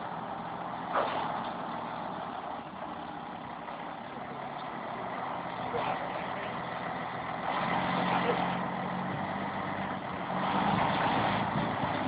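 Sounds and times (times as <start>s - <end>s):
concrete mixer truck engine: 0.0s - 12.0s.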